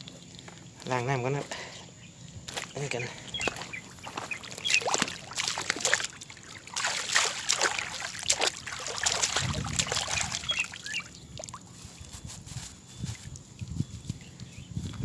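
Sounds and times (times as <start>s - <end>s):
water splashing and trickling: 0.0s - 1.7s, 2.5s - 15.0s.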